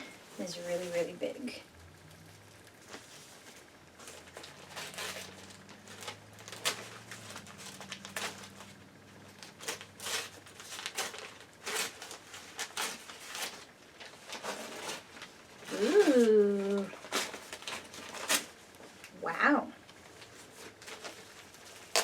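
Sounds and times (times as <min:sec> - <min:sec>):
packaging rustling and crinkling: 0:02.0 - 0:19.1, 0:19.8 - 0:22.0.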